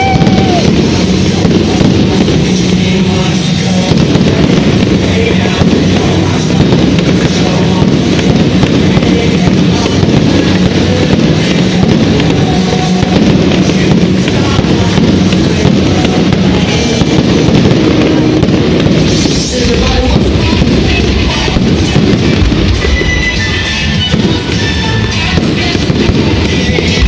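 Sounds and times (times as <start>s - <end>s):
fireworks cracking and popping: 0.0s - 27.0s
loud music: 0.0s - 27.0s.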